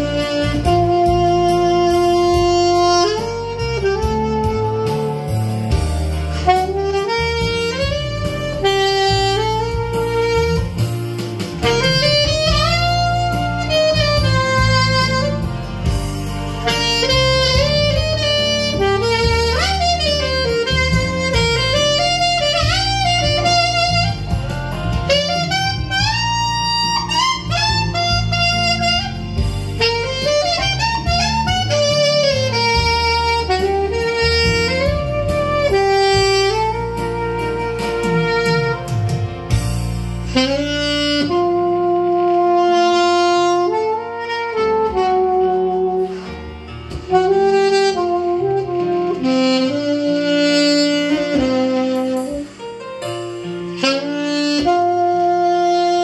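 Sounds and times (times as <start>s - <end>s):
low accompaniment: 0.0s - 56.0s
saxophone ballad melody: 0.0s - 56.0s.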